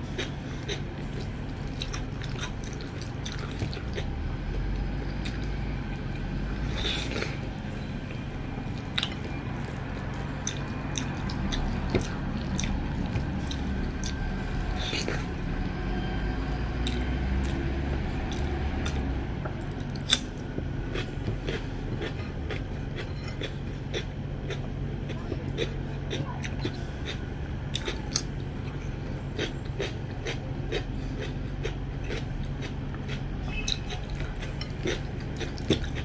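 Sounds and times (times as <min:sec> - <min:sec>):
close-up chewing: 0:00.0 - 0:15.8, 0:16.8 - 0:36.0
low background hum: 0:00.0 - 0:36.0.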